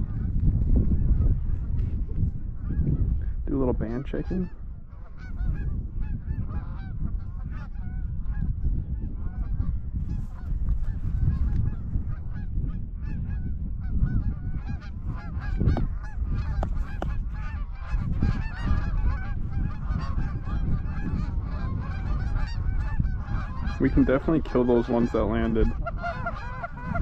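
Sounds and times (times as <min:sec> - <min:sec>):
geese honking and clucking: 0:00.0 - 0:00.3, 0:02.5 - 0:03.1, 0:03.9 - 0:27.0
low wind rumble: 0:00.0 - 0:27.0.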